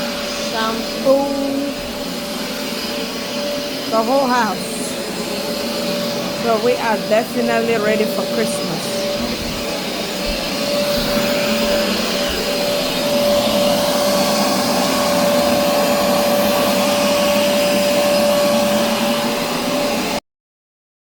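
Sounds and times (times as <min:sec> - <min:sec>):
carpet shampooer motor running: 0:00.0 - 0:20.2.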